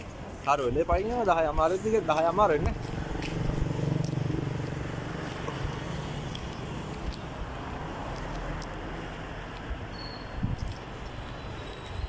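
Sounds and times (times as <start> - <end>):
traffic rumble and hiss: 0.0 - 12.0.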